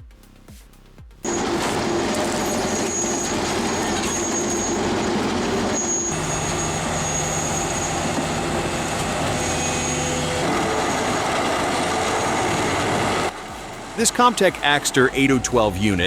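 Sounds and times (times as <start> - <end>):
heavy machinery engine running: 1.2 - 16.0
thin high whine: 1.3 - 15.8.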